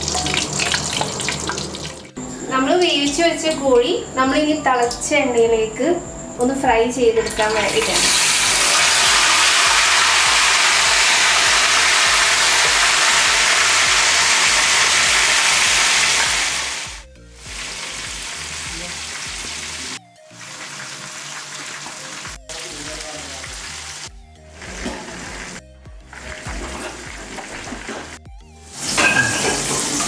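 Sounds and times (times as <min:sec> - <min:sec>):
chicken sizzling in hot oil: 0:00.0 - 0:02.2, 0:07.6 - 0:30.0.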